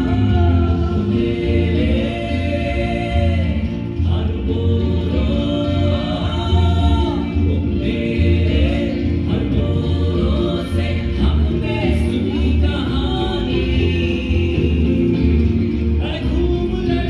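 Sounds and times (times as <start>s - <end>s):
choral singing: 0.0s - 17.0s.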